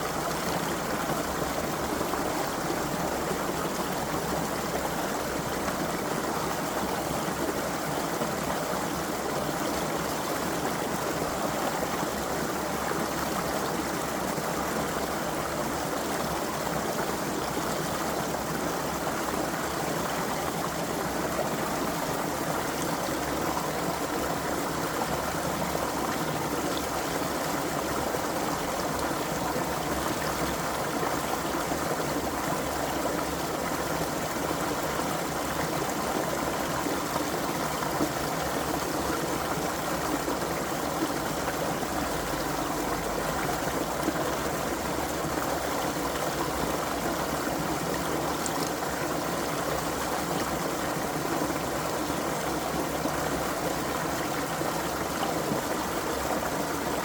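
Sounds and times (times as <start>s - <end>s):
creek water flowing over rocks: 0.0s - 57.0s.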